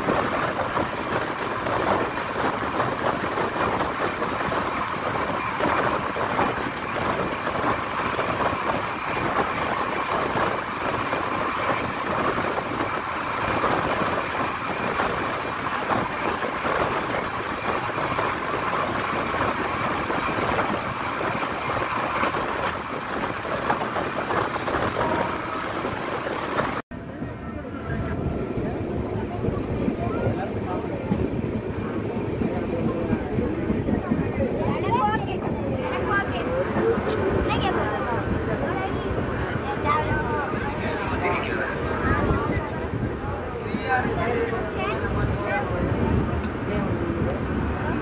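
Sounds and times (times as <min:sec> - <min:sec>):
train wheels rumbling and clattering: 0:00.0 - 0:48.0.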